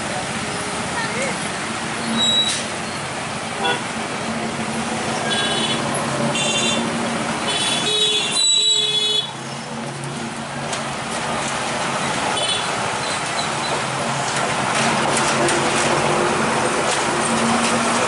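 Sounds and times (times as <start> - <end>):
road traffic engine hum: 0.0 - 18.0.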